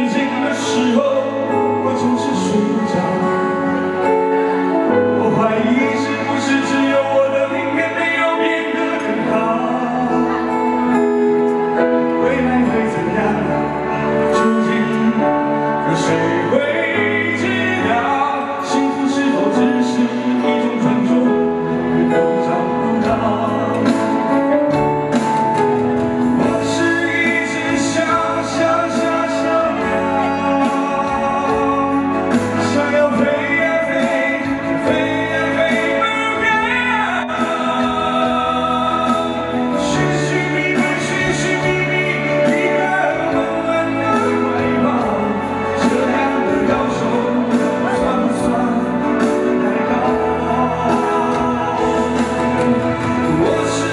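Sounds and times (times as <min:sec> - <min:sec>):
man singing into a microphone: 0:00.0 - 0:53.9.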